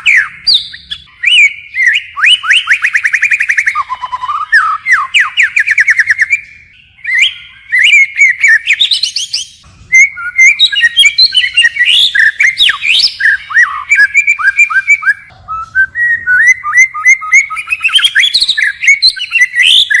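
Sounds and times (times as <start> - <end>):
bird singing whistles and trills: 0.0 - 20.0.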